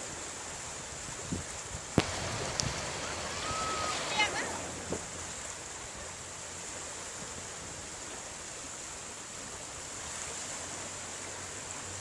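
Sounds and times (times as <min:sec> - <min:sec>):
sea surf on a beach: 0:00.0 - 0:12.0.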